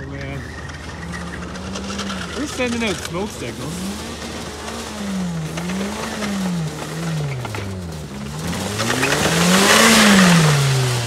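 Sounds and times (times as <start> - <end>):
car engine revving: 0.0 - 11.0
tires spinning on dirt: 0.0 - 11.0.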